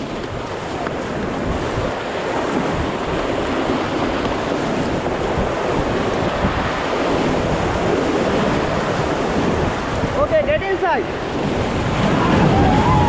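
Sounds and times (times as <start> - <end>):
river water rushing around boat: 0.0 - 13.0
wind buffeting microphone: 0.0 - 13.0.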